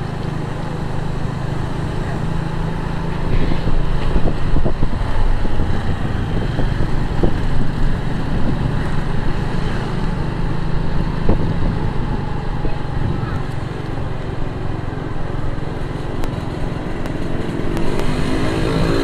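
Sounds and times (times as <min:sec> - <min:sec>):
motorbike engine running: 0:00.0 - 0:19.0
road traffic: 0:00.0 - 0:19.0
wind rushing over microphone: 0:02.7 - 0:19.0.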